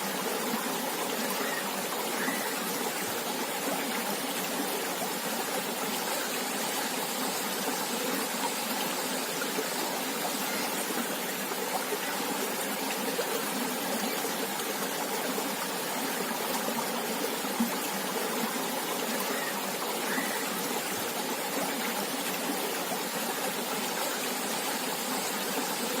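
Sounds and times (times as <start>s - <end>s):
river water flowing over rocks: 0.0s - 26.0s.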